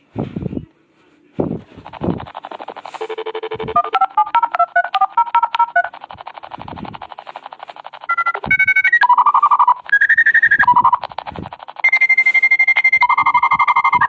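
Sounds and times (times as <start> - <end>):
dial-up modem pulsing buzz: 1.8 - 14.0
modem beeping tones: 1.8 - 14.0
steady high tone: 1.8 - 14.0.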